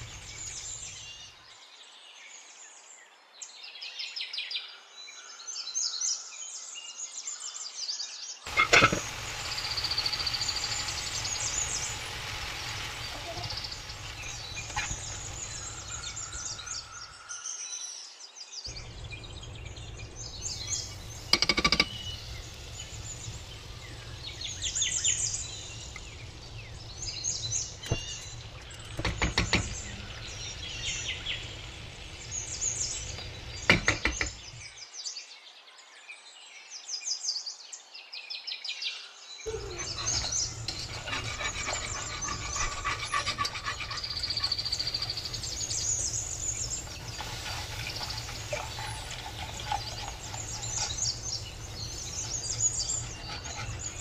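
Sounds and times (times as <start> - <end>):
birds chirping and trilling: 0.0 - 35.6, 38.9 - 54.0.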